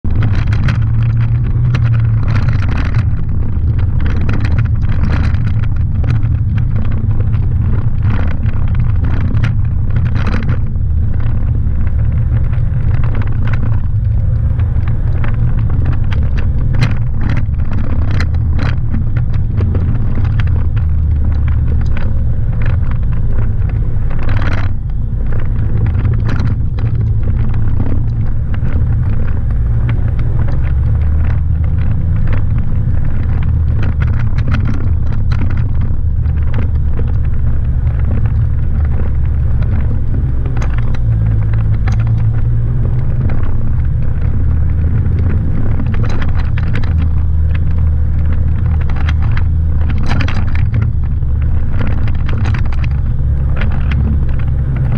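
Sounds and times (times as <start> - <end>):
off-road vehicle engine rumble: 0.0 - 54.9
vehicle knocks and rattles: 0.0 - 54.9.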